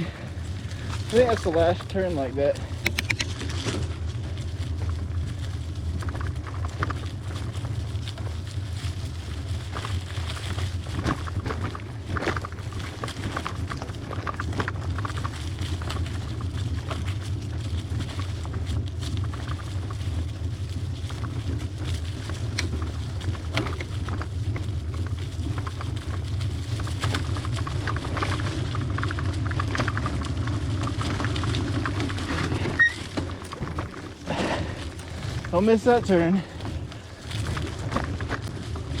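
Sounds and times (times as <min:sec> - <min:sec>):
bicycle rattles and knocks: 0:00.0 - 0:39.0
bicycle tyre and wind rumble: 0:00.0 - 0:39.0.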